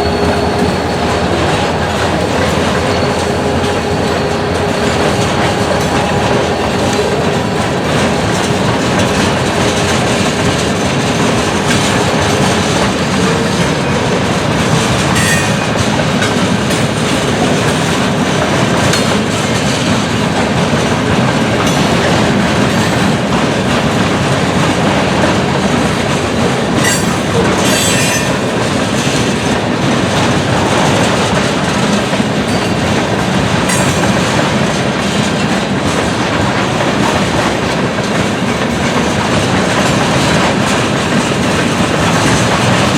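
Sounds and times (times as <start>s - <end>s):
freight train wheels rumbling: 0.0s - 42.9s
train wheel squeals: 0.0s - 42.9s.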